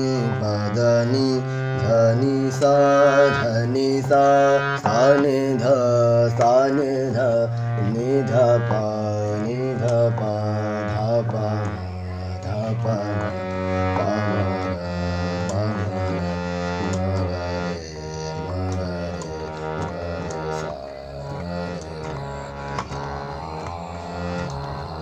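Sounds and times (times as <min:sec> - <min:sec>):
man singing held notes: 0:00.0 - 0:25.0
steady low drone: 0:00.0 - 0:25.0.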